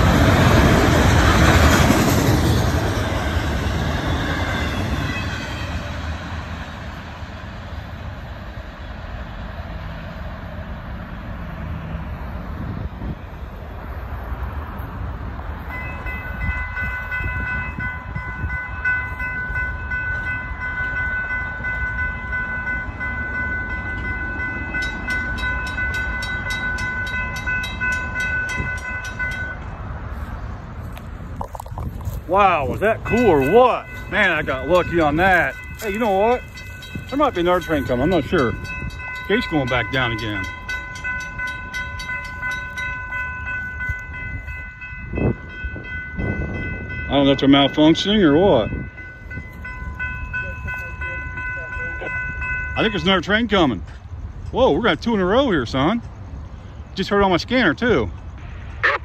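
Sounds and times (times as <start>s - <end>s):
crossing warning bell ringing: 0.0s - 8.1s, 14.7s - 31.2s, 32.0s - 59.0s
freight train rumbling past: 0.0s - 59.0s.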